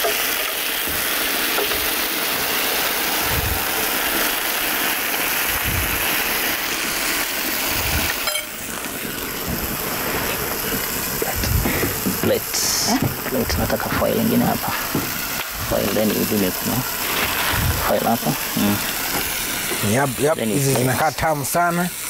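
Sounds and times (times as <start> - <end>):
potato slices sizzling in hot oil: 0.0 - 22.0.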